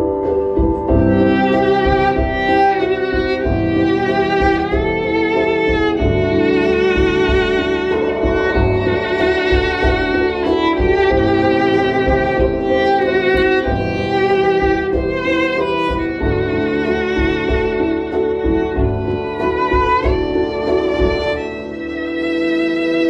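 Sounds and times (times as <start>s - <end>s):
solo violin melody: 0.0s - 23.0s.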